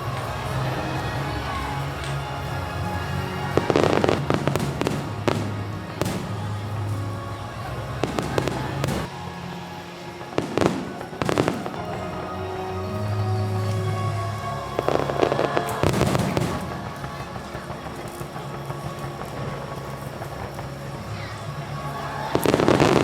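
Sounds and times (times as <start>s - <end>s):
faint music from loudspeakers: 0.0s - 23.0s
fireworks bursting and crackling: 0.0s - 23.0s.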